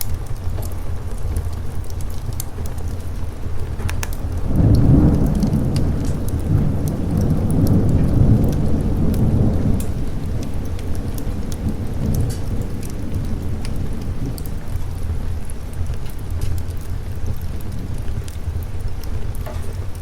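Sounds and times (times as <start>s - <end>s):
steady rain: 0.0s - 20.0s
rolling thunder: 0.1s - 20.0s.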